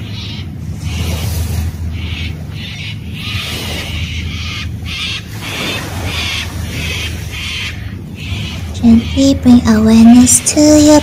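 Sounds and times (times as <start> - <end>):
birds calling in harsh bursts: 0.0 - 11.0
steady low rumble: 0.0 - 11.0.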